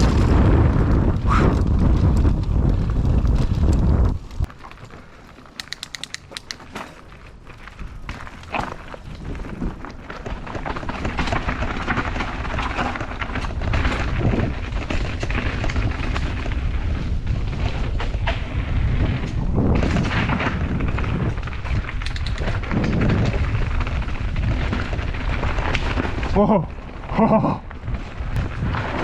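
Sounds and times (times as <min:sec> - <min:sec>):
wind buffeting microphone: 0:00.0 - 0:04.5, 0:08.9 - 0:29.0
bike rattles and knocks: 0:00.0 - 0:29.0
tyres over rough ground: 0:00.0 - 0:29.0.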